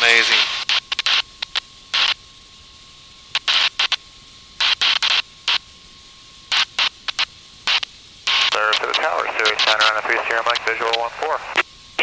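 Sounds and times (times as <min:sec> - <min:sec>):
faint steady tone: 0:00.0 - 0:12.0
steady intercom hiss: 0:00.0 - 0:12.0.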